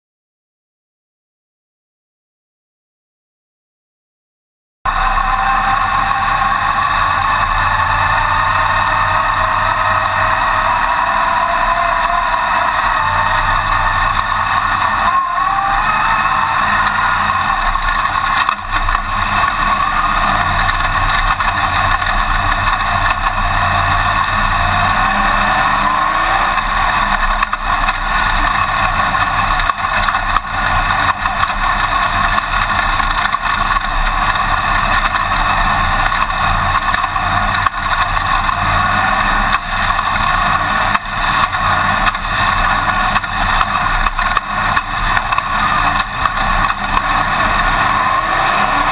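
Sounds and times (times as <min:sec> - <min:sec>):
race car engine running: 0:04.9 - 0:48.9.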